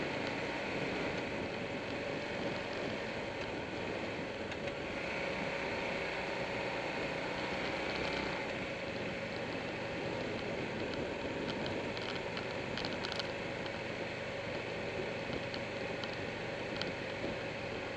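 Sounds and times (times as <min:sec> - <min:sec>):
motorcycle engine running: 0:00.0 - 0:17.9
road noise: 0:00.0 - 0:17.9.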